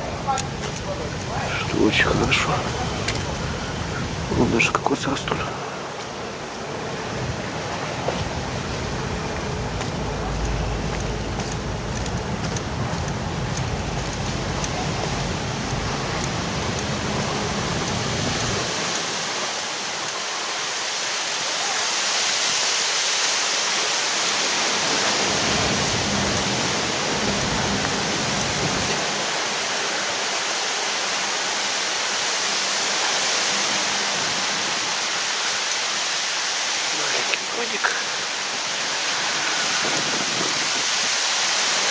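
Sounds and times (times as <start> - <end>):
steady outdoor hiss: 0.0 - 41.9.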